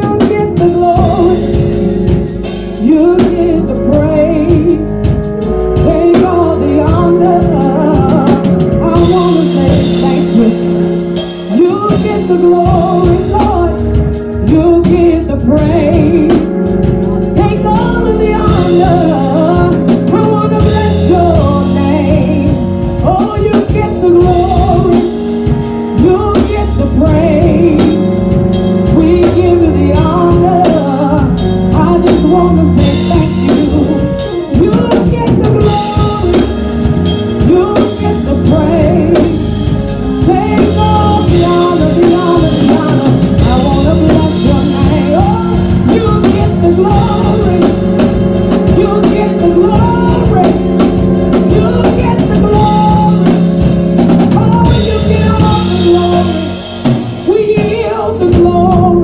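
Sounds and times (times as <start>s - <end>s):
drum kit: 0.0s - 59.0s
held chords: 0.0s - 59.0s
woman singing gospel: 0.0s - 59.0s.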